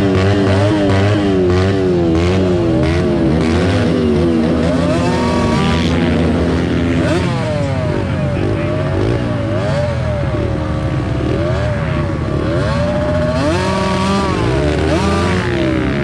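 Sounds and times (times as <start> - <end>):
small motorbike engines revving: 0.0 - 16.0.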